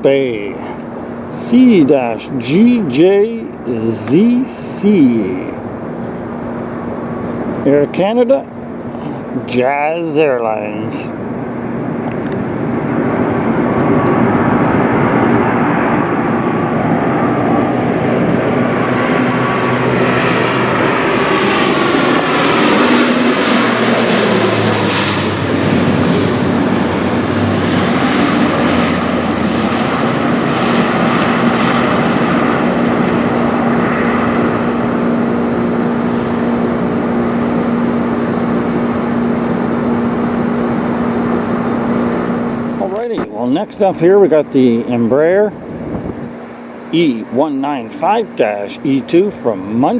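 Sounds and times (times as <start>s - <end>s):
high engine whine: 0.0s - 49.9s
turboprop engine drone: 0.0s - 49.9s.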